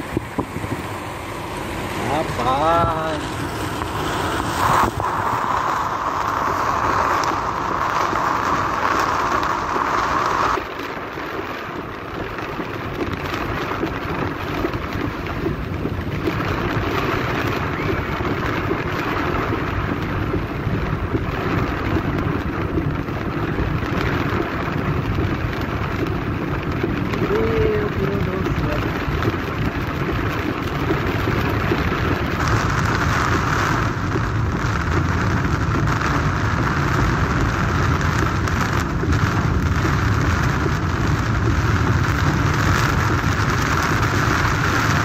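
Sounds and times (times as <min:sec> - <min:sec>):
hail beating on car body: 0:00.0 - 0:45.0
tyre noise on wet road: 0:00.0 - 0:45.0.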